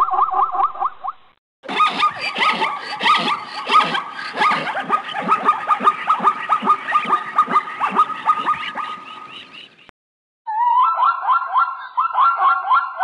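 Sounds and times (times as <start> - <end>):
zebras barking yelps: 1.7 - 9.9, 10.6 - 13.0.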